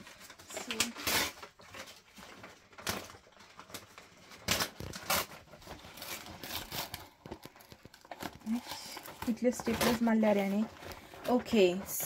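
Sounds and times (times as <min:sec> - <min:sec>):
paper ripping: 0:00.0 - 0:11.7
paper bag rustling: 0:00.0 - 0:12.0.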